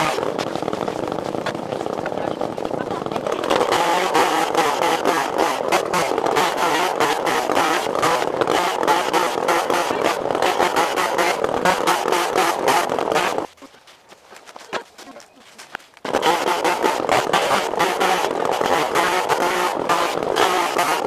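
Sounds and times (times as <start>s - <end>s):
bandsaw mill running: 0.0s - 13.5s, 16.1s - 21.0s.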